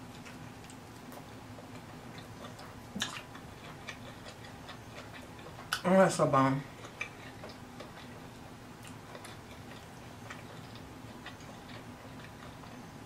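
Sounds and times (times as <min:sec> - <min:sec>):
chewing with wet mouth clicks: 0:00.0 - 0:05.9, 0:06.6 - 0:12.9
faint steady hum: 0:00.0 - 0:13.0.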